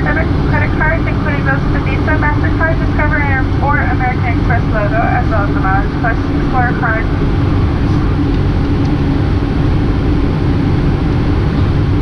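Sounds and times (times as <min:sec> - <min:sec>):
jet engine hum: 0:00.0 - 0:12.0.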